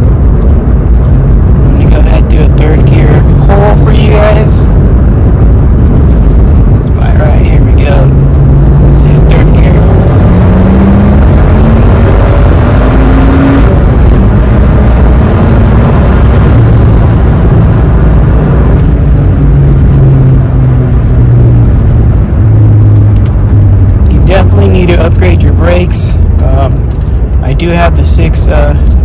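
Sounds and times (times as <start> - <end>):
car engine accelerating: 0.0 - 29.0
road rumble: 0.0 - 29.0.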